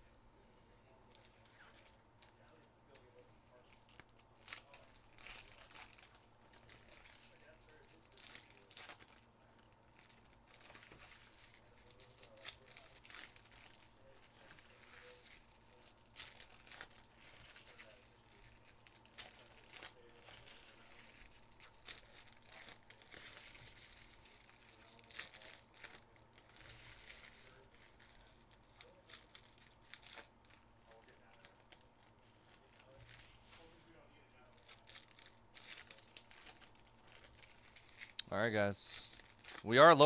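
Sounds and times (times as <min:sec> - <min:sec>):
plastic wrappers crinkling and tearing: 0:01.1 - 0:40.0.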